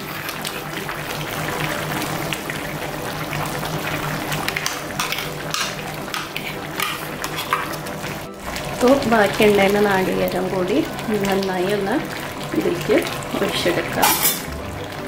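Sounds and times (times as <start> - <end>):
curry bubbling: 0.0 - 15.0.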